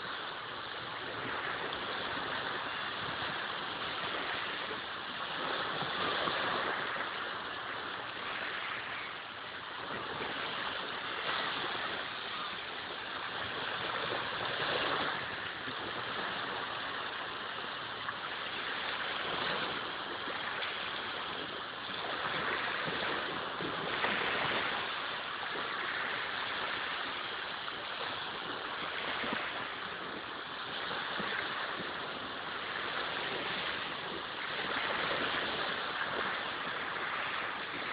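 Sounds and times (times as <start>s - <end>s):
sea waves breaking on shore: 0.0s - 37.9s.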